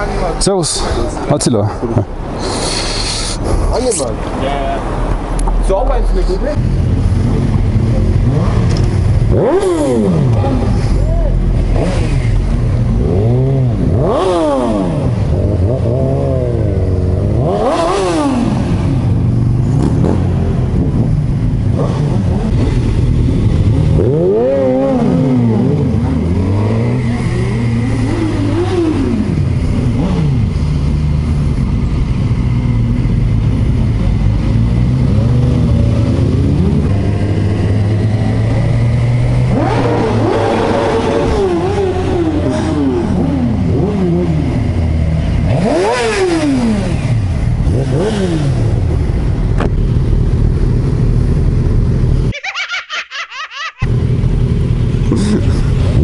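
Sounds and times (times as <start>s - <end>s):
motorcycle engines revving: 0.0s - 52.3s, 53.8s - 56.0s.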